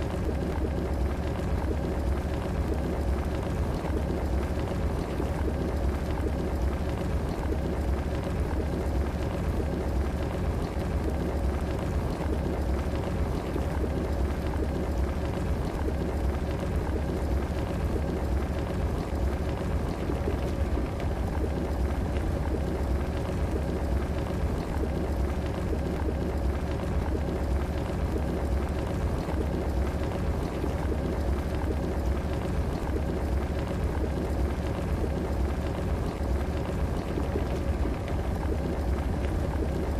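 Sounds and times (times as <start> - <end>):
electric kettle boiling water: 0.0 - 39.9.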